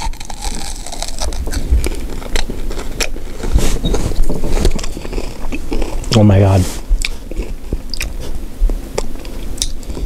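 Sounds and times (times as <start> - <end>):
crunchy biting and chewing: 0.0 - 10.0.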